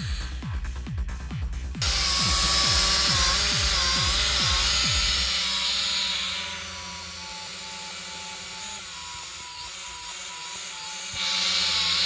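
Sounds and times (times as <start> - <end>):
quadcopter propellers buzzing: 0.0 - 12.0.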